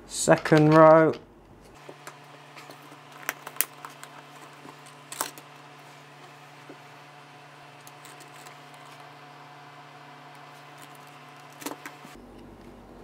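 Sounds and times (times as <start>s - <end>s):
low hum: 1.2s - 13.0s.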